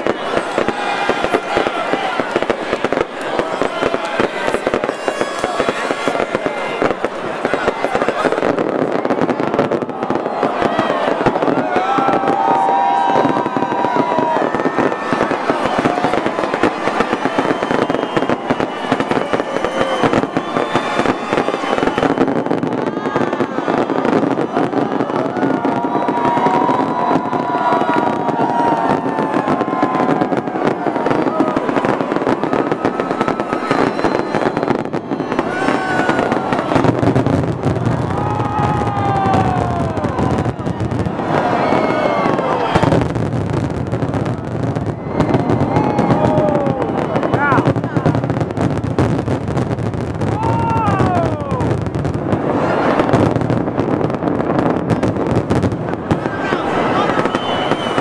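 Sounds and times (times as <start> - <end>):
crowd voices: 0.0 - 58.0
fireworks bangs and crackles: 0.0 - 58.0.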